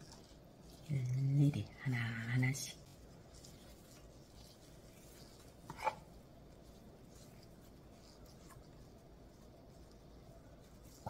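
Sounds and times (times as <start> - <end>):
wooden spoon scraping paste: 0.0 - 11.0.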